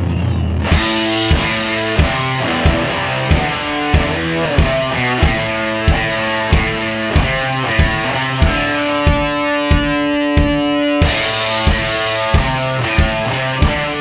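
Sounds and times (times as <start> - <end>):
rock music with guitar: 0.0 - 14.0
steady drum beat: 0.7 - 14.0.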